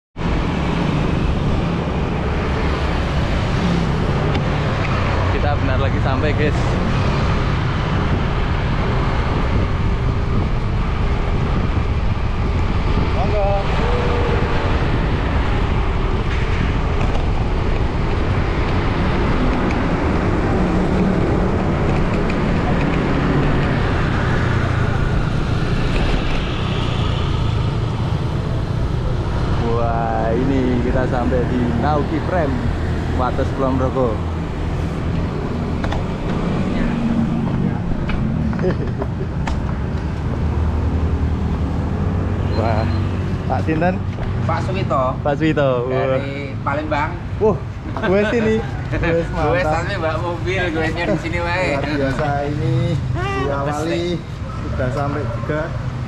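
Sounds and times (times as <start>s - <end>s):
wind rushing on microphone: 0.2s - 45.4s
passing vehicle: 0.2s - 56.0s
road noise: 0.2s - 56.0s
vehicle engine hum: 0.2s - 56.0s.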